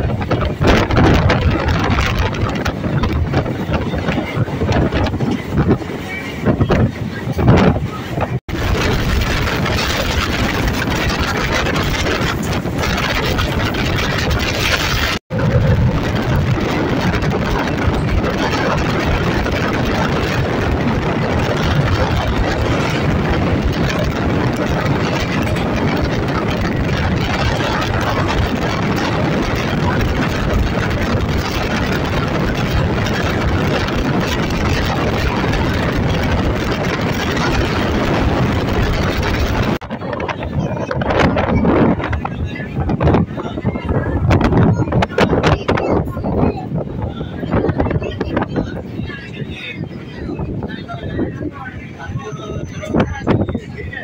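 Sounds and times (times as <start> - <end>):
train rumbling with knocks: 0.0 - 54.0
wind buffeting microphone: 0.0 - 54.0.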